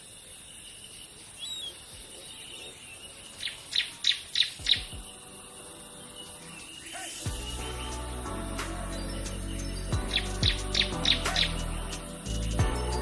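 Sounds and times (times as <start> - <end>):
insects hissing: 0.0 - 13.0
bird chirping high notes: 1.4 - 13.0.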